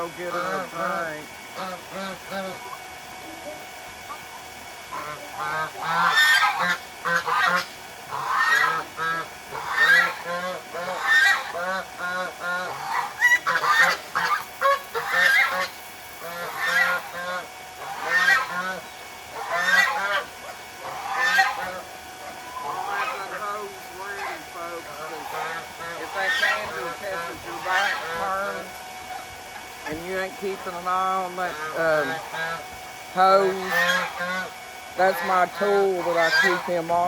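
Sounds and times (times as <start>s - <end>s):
geese honking: 0.0s - 2.8s, 4.0s - 37.0s.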